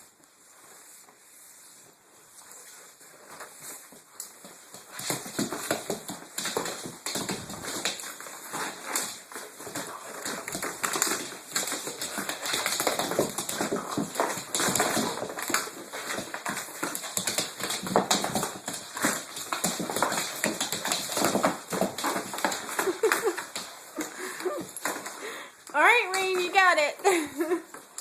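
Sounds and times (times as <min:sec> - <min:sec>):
claws clicking on hard floor: 0:02.4 - 0:28.0.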